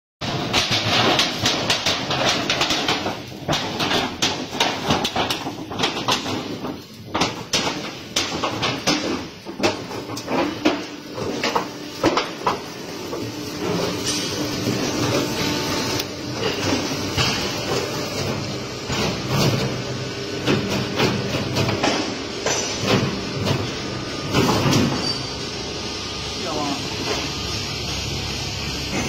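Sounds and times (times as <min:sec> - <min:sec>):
roll forming machine running: 0:00.2 - 0:29.0.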